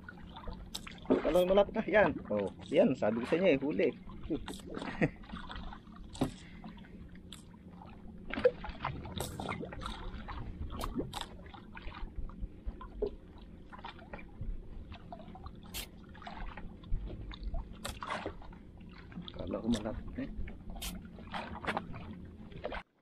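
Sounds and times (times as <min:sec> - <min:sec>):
water splashing and dripping: 0:00.0 - 0:22.9.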